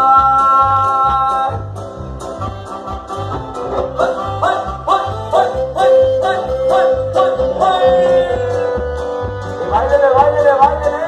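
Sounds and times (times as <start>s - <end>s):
live band dance music: 0.0s - 11.0s
plucked-string melody: 0.8s - 11.0s.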